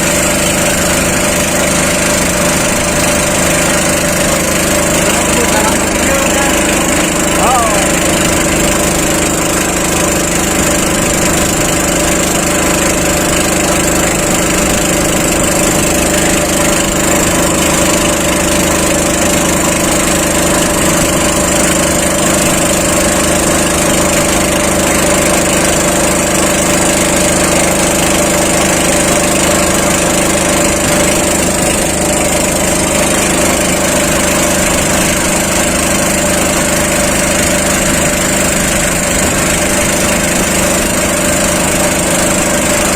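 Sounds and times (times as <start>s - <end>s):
small engine running steadily: 0.0s - 42.9s.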